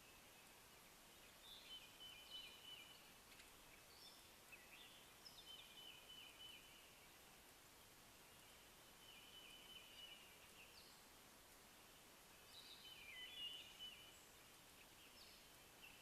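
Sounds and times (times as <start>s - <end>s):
background hiss: 0.0s - 16.0s
faint songbird chirping: 0.0s - 16.0s.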